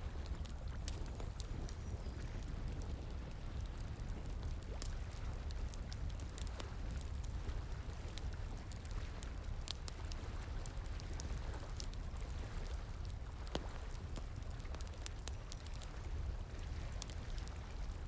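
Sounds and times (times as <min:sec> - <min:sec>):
wood fire crackling and popping: 0:00.1 - 0:18.0.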